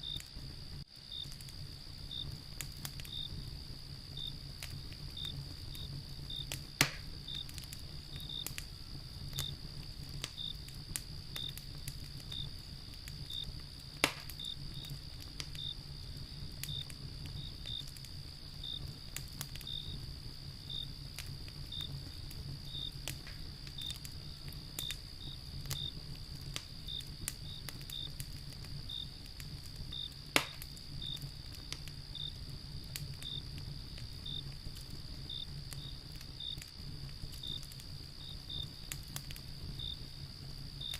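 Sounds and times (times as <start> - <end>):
cricket chirps: 0.0 - 40.9
high insect trill: 0.0 - 40.9
wood fire crackling and popping: 0.0 - 40.9.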